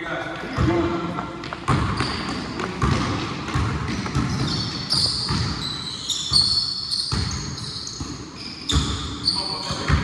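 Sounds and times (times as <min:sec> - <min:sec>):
sneakers squeaking on court: 0:00.4 - 0:10.0
basketball dribbling thumps: 0:00.5 - 0:09.1, 0:09.7 - 0:10.0.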